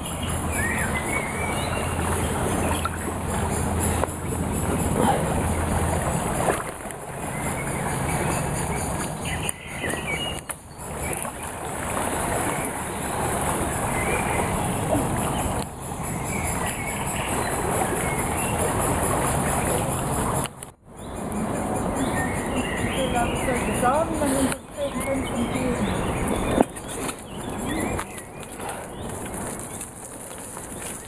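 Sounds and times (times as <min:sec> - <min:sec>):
rushing floodwater: 0:00.0 - 0:20.6, 0:21.2 - 0:31.0.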